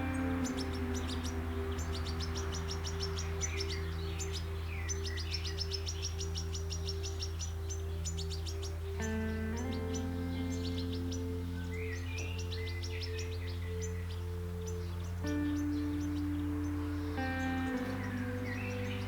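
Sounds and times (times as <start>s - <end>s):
finches twittering: 0.0s - 19.0s
soft background music chords: 0.0s - 19.0s.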